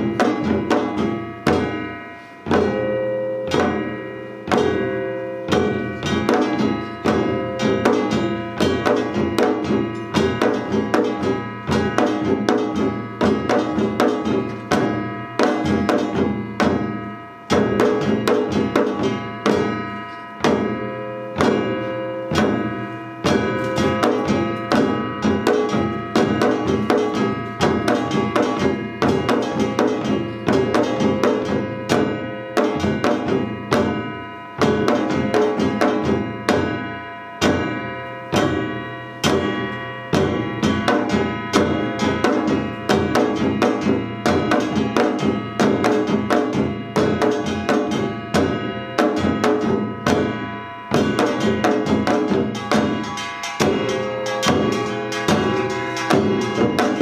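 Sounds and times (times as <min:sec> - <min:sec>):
barrel drums: 0:00.0 - 0:57.0
hourglass drums: 0:00.0 - 0:57.0
small gong clanging: 0:00.0 - 0:57.0.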